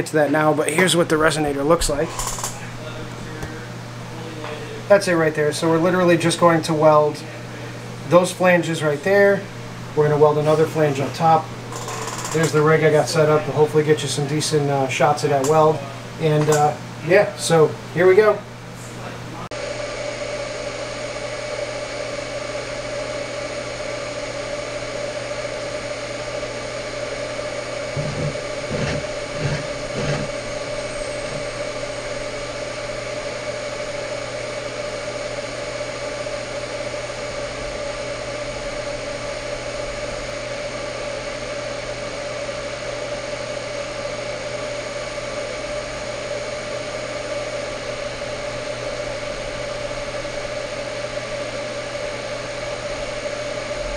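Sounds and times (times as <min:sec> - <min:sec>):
welding arc buzzing: 0:00.0 - 0:18.6, 0:19.6 - 0:53.9.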